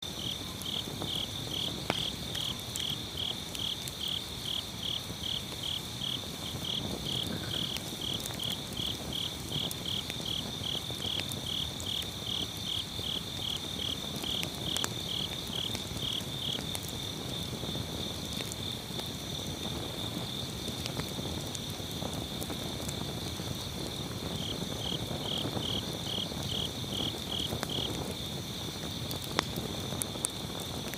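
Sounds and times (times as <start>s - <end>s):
crickets chirping: 0.0s - 30.9s
firewood crackling: 0.0s - 30.9s.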